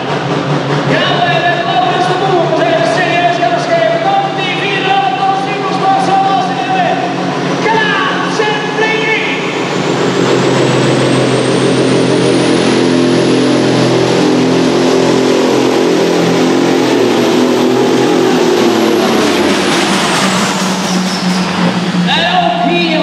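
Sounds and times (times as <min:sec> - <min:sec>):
tractor engine running loud: 0:00.0 - 0:23.0.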